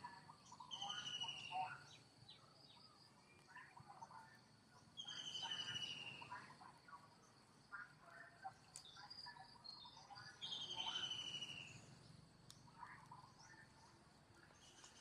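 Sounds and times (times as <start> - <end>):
faint chirps: 0.0 - 15.0.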